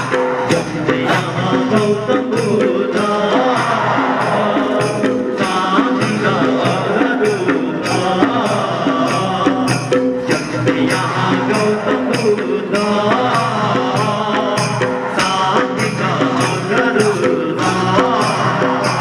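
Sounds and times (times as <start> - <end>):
folk dance music: 0.0 - 19.0
jingling percussion beat: 0.0 - 19.0.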